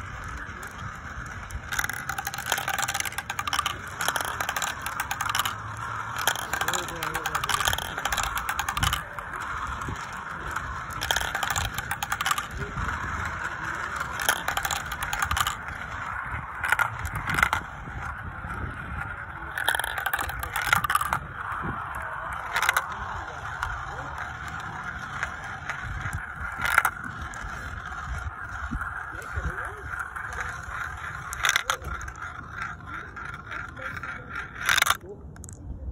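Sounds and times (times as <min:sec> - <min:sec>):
marbles clicking together: 0:00.0 - 0:35.9
marbles rolling in plastic bowl: 0:00.0 - 0:35.9.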